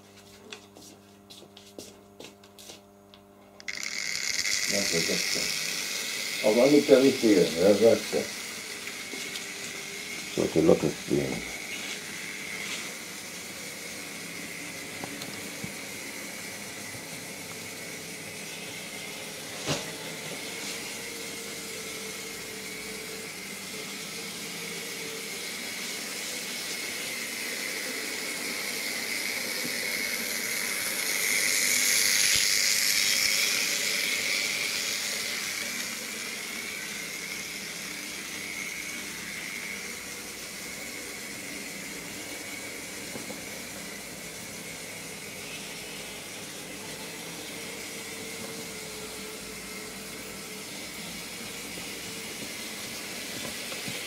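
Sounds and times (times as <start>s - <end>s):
model train motor whine: 3.6s - 54.0s.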